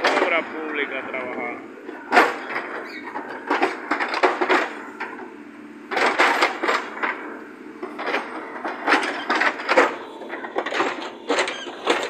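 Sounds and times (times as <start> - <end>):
excavator metallic clanks: 0.0 - 5.3, 5.9 - 12.0.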